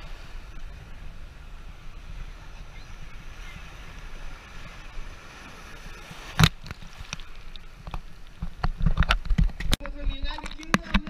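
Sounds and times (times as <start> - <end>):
surf washing and foaming: 0.0 - 11.0.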